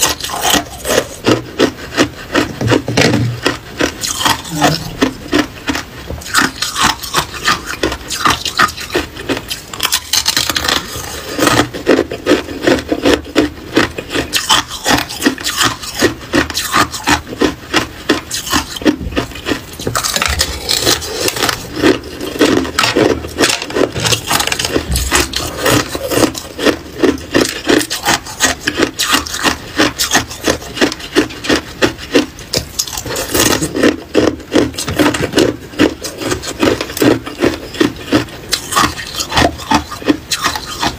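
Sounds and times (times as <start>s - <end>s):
ice crunching between teeth: 0.0s - 40.9s.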